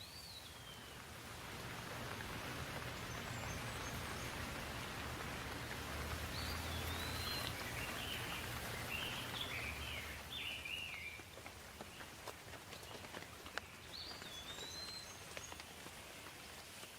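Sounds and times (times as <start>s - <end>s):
songbird chirping: 0.0s - 16.9s
steady rain falling: 0.0s - 16.9s.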